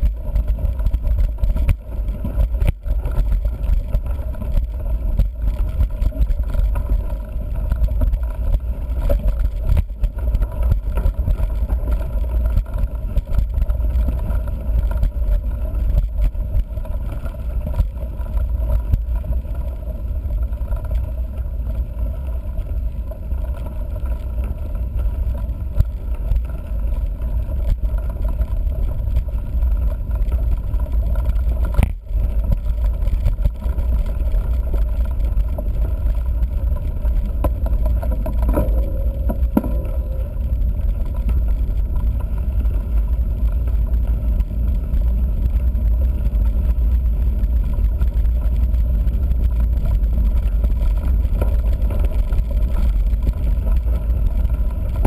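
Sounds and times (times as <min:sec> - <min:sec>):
bike tyre rumbling on gravel: 0:00.0 - 0:55.0
stones knocking against bike: 0:00.0 - 0:55.0.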